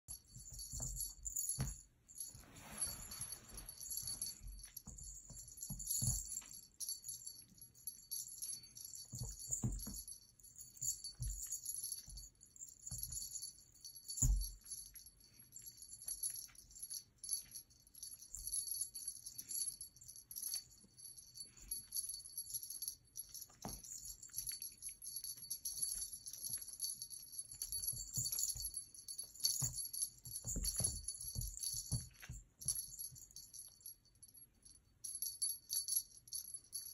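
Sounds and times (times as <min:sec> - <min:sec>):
small bell jingling: 0:00.0 - 0:36.9.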